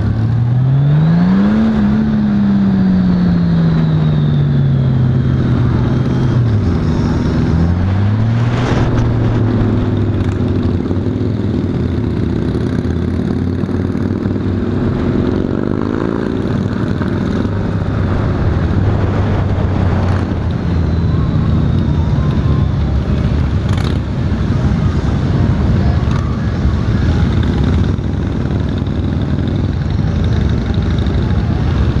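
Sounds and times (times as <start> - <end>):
motorcycle engine: 0.0 - 32.0
rush of noise: 0.0 - 32.0.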